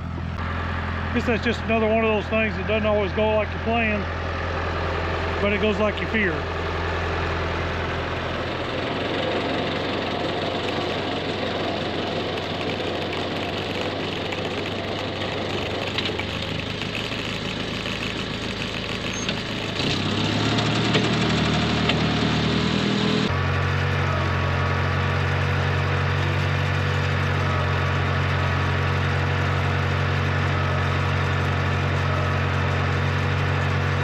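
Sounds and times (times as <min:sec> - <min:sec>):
farm vehicle engine running: 0:00.0 - 0:34.0.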